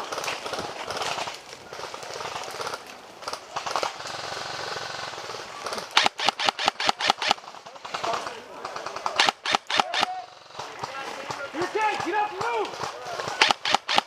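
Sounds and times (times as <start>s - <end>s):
airsoft rifle rapid fire: 0.0s - 14.0s.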